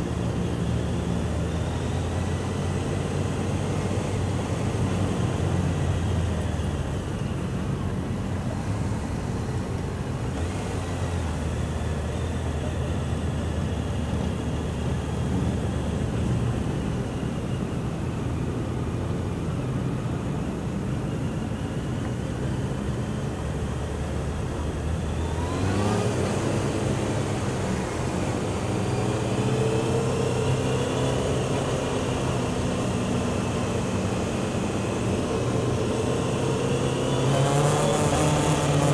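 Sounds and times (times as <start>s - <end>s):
other motorcycles: 0.0s - 38.9s.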